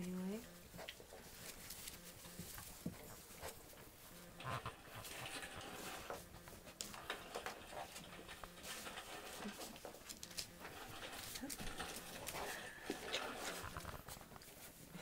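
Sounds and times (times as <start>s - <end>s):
puppies scuffling in wood shavings: 0.0s - 4.4s, 5.0s - 15.0s.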